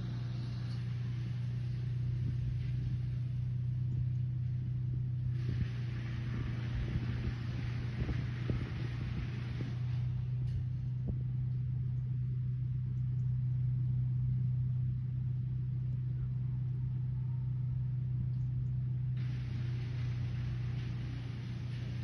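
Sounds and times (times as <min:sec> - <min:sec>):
faint rumble: 0:00.0 - 0:22.0
low mechanical hum: 0:00.0 - 0:22.0.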